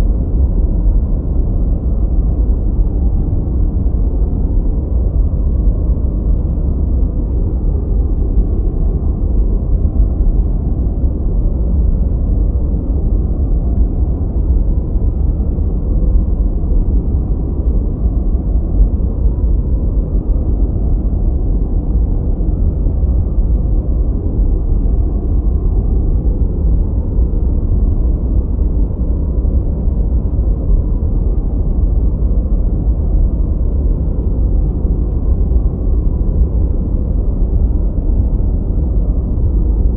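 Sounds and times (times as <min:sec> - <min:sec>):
low muffled rumble noise: 0:00.0 - 0:39.9.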